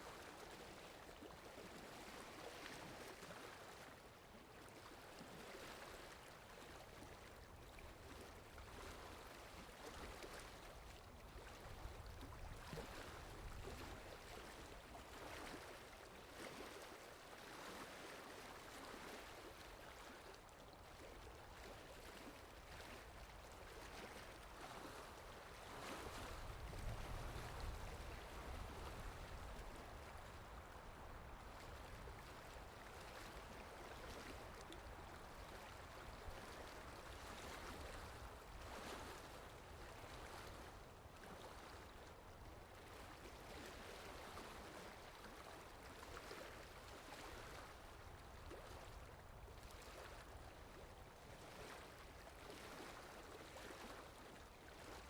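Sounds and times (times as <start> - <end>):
gently flowing water: 0.0 - 55.0.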